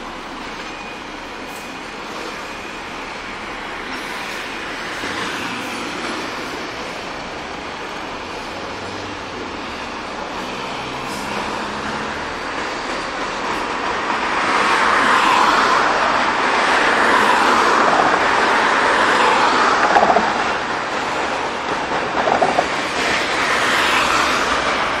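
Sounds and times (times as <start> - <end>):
cars driving by: 1.7 - 25.0.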